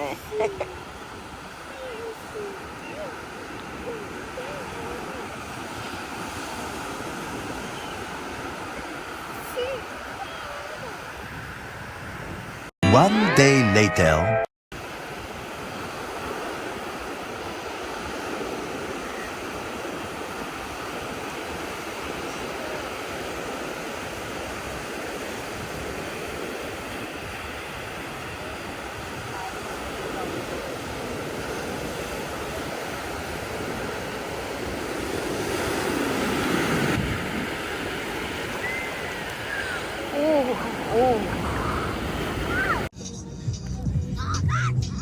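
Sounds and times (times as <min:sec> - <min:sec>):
wind on microphone: 0:00.0 - 0:12.7, 0:14.8 - 0:42.9
ocean surf: 0:00.0 - 0:14.2, 0:14.8 - 0:42.9.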